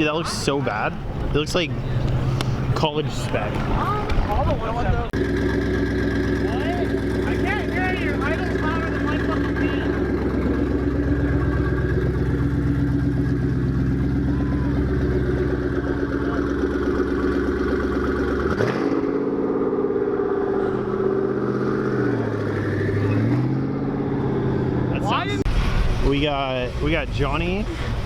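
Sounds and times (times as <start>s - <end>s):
car engine idling: 0.0s - 25.5s.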